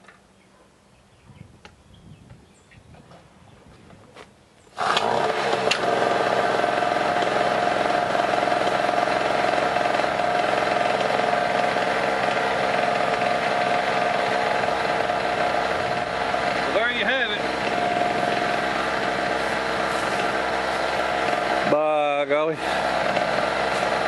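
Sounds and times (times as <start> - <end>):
portable generator starting and running: 4.7 - 24.0.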